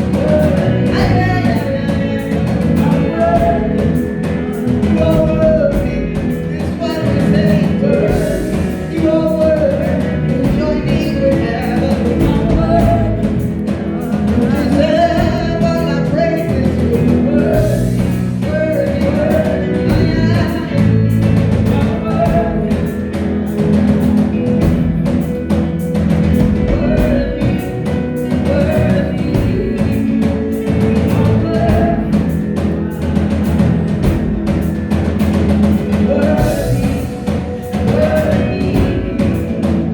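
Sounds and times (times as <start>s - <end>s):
band playing: 0.0s - 39.9s
people singing gospel: 0.0s - 39.9s.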